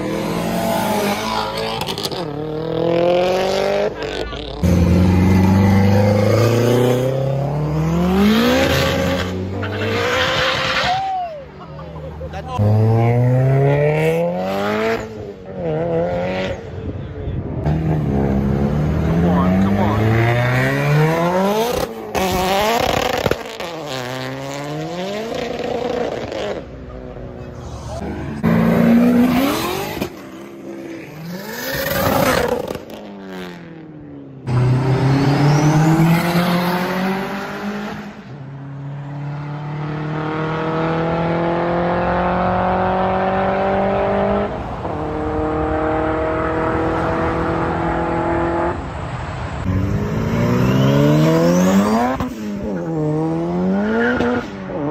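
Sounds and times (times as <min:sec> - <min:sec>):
car engine revving and accelerating: 0:00.0 - 0:10.9, 0:12.6 - 0:16.7, 0:17.6 - 0:26.7, 0:27.8 - 0:54.9.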